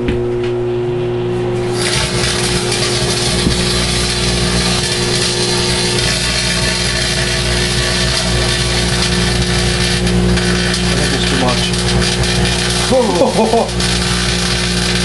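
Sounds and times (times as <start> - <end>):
microwave oven hum: 0.0 - 15.0
buzzing hiss of arcing: 1.6 - 15.0.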